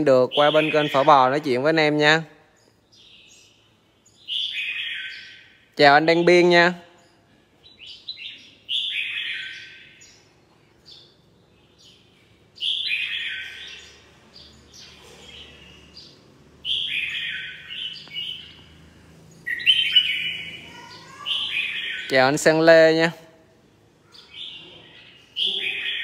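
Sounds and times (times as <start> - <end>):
bird chirps: 0.0 - 26.0
bird singing warbled phrases: 0.0 - 26.0.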